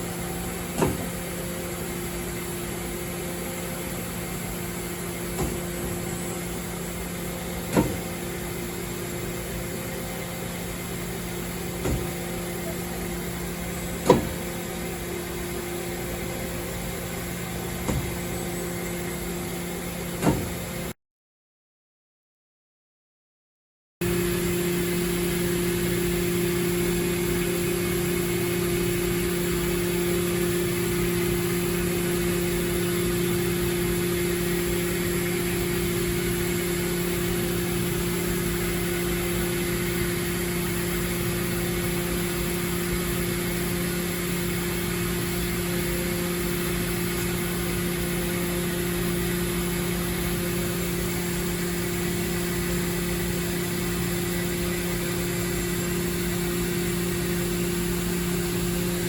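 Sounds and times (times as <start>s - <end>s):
lathe machine hum and hiss: 0.0s - 20.9s, 24.0s - 59.0s.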